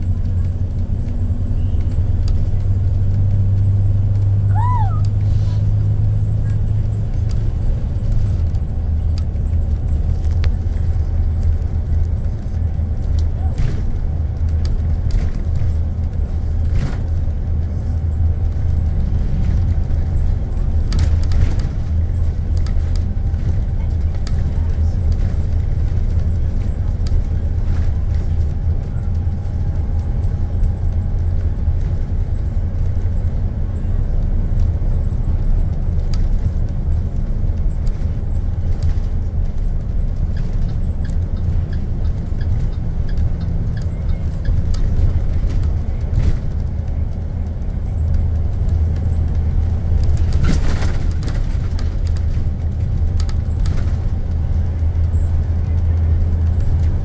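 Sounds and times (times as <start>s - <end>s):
bus engine and tyre rumble: 0.0s - 57.0s
rattles from bus body: 5.1s - 57.0s.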